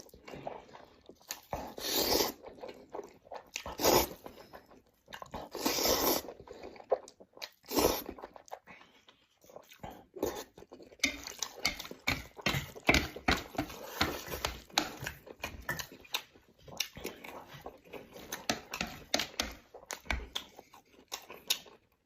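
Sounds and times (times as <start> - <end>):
person chewing noodles: 0.0 - 22.0.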